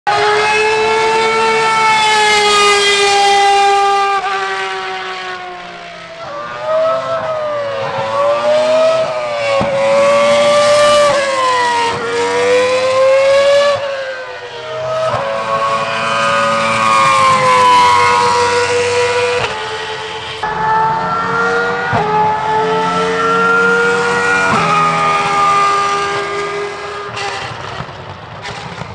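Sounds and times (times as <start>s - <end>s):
racing car engines revving: 0.1s - 28.9s.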